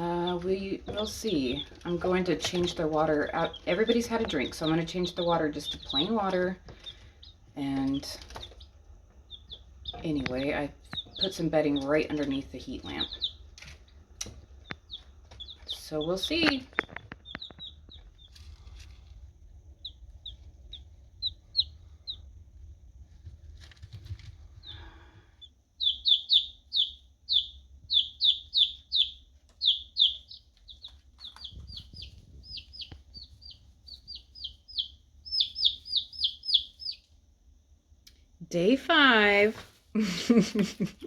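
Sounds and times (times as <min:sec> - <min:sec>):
baby chicks peeping: 0:00.0 - 0:37.2.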